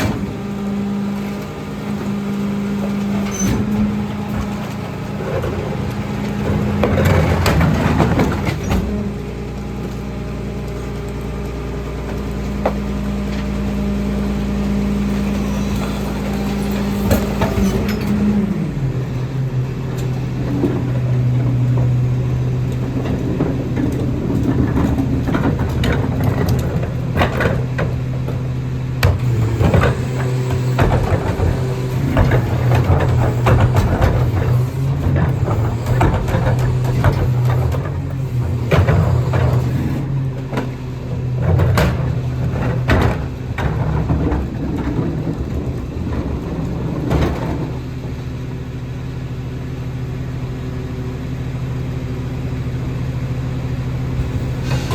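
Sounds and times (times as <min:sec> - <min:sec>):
recycling clanking into hopper: 0:00.0 - 0:50.2, 0:51.8 - 0:54.9
garbage truck engine hum: 0:00.0 - 0:54.9.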